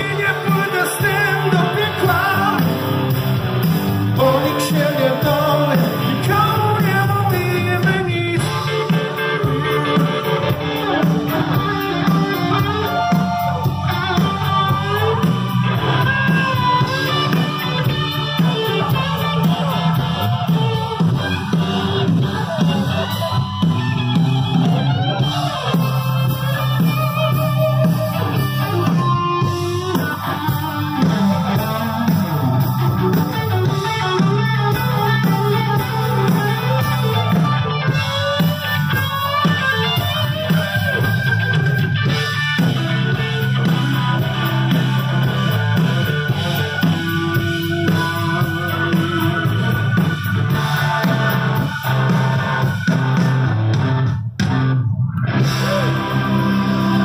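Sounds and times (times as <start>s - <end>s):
blues-rock band playing: 0.0s - 57.0s.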